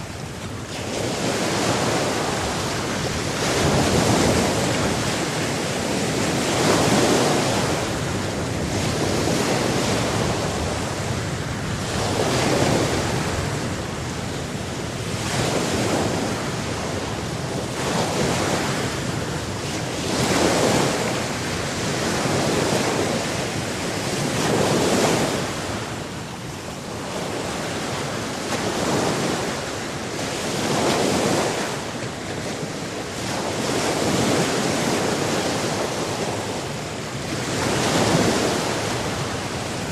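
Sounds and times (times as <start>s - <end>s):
ocean waves breaking on shore: 0.0s - 39.9s
wind: 0.0s - 39.9s.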